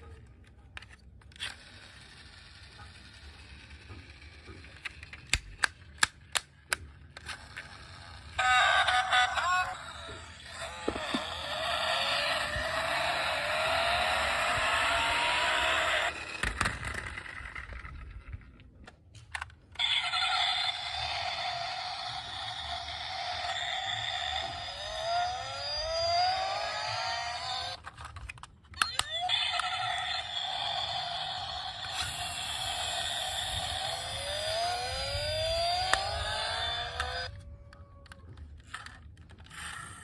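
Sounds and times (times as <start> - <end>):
toy car motors whirring: 0.0 - 40.0.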